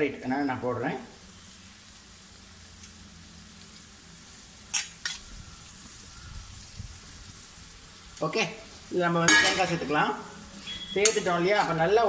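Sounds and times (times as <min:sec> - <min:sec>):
vegetables sizzling faintly: 0:00.0 - 0:12.0.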